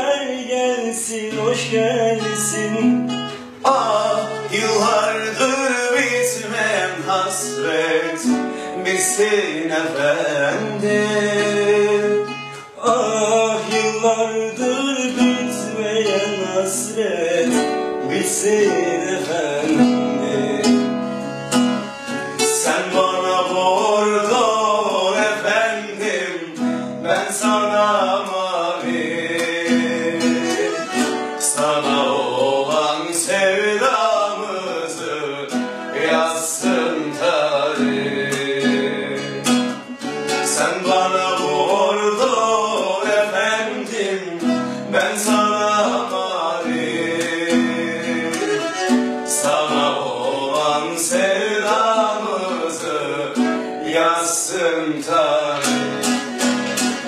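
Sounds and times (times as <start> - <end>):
men singing together: 0.0 - 21.2, 22.4 - 57.0
classical guitar strummed and plucked: 0.0 - 57.0
small bowed fiddle: 1.4 - 57.0.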